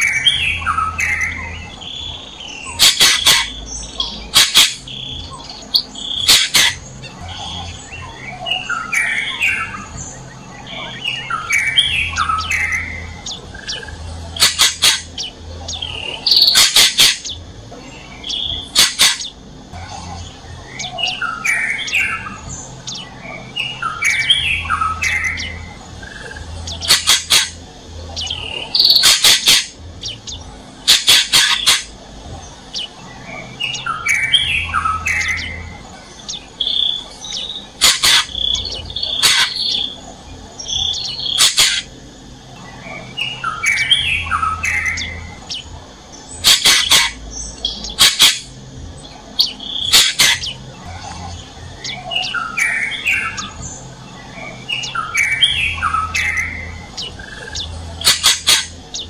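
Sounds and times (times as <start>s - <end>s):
songbirds warbling: 0.0s - 59.0s.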